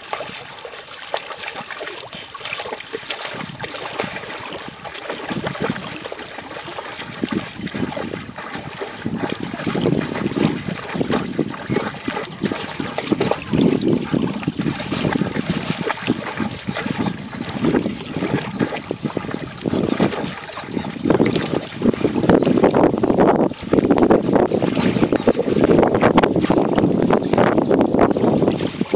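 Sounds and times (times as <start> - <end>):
dog splashing in water: 0.0 - 28.9.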